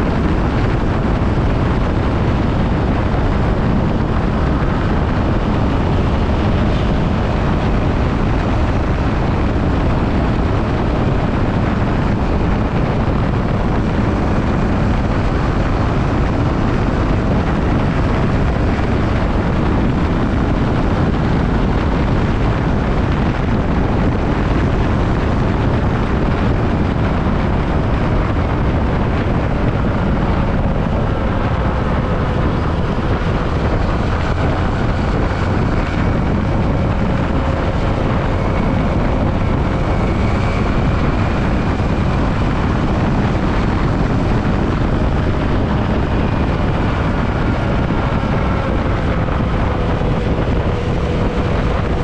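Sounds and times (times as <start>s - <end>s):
motorcycle engine: 0.0s - 52.0s
wind noise on microphone: 0.0s - 52.0s.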